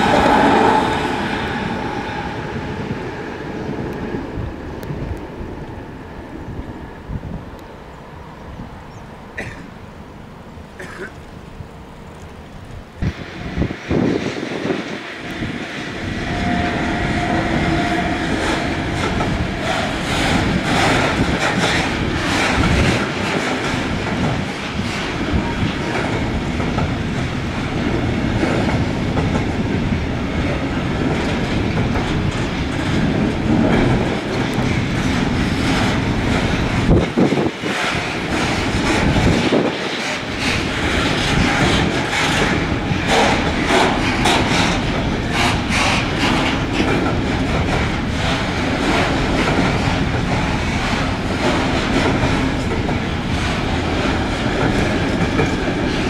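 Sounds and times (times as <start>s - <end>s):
freight train clattering over rails: 0.0s - 5.4s, 13.0s - 56.0s.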